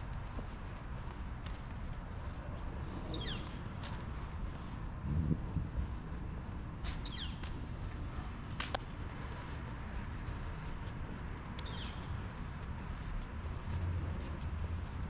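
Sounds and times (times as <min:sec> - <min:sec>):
high-pitched insect drone: 0:00.0 - 0:15.0
steady low rumble: 0:00.0 - 0:15.0.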